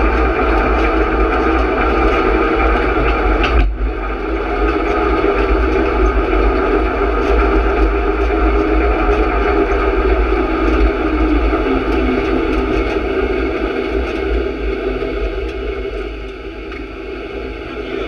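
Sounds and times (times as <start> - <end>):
low wind rumble: 0.0 - 18.0
vehicle engine noise: 0.0 - 18.0.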